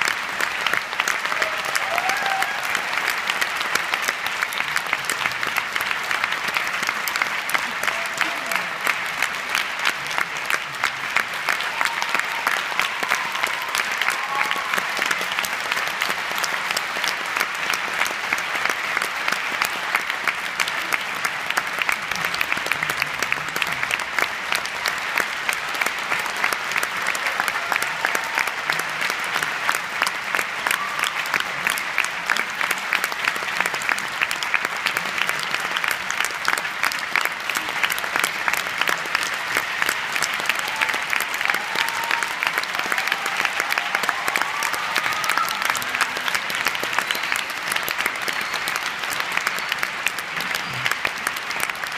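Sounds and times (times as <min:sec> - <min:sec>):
audience applauding: 0:00.0 - 0:51.9.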